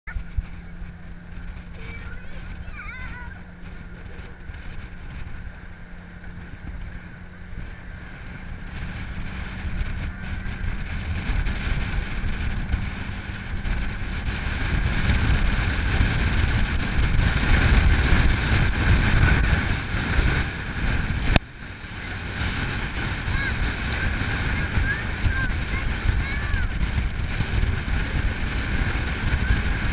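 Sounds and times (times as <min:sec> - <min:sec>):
vehicle engine rumble: 0:00.0 - 0:29.9
wind buffeting microphone: 0:00.1 - 0:29.9.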